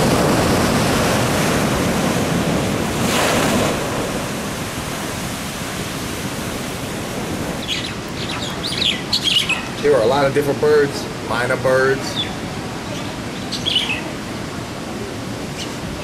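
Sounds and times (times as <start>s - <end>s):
surf breaking on rocky shore: 0.0s - 16.0s.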